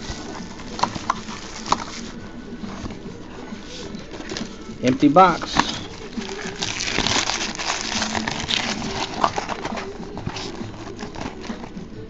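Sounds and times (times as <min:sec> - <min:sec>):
foil pack rustling: 0:00.0 - 0:03.0, 0:03.6 - 0:11.9.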